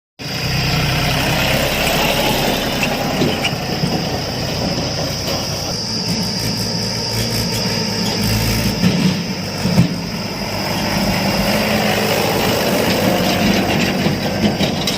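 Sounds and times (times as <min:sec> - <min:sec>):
diesel engine hum: 0:00.2 - 0:14.9
high-pitched whine: 0:00.2 - 0:14.9.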